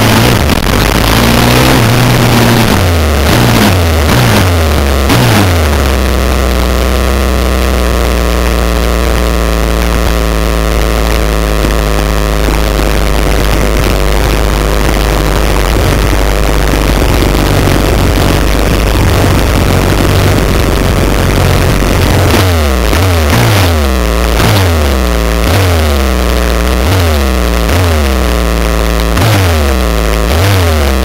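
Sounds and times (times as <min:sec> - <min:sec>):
motorbike engine idling: 0:00.0 - 0:31.0.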